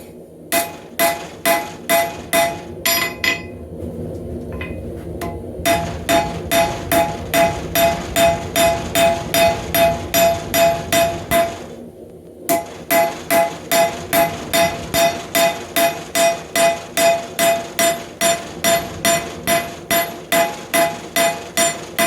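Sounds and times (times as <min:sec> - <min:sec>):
hammer striking metal on anvil: 0:00.5 - 0:03.5, 0:04.6 - 0:11.6, 0:12.5 - 0:22.0.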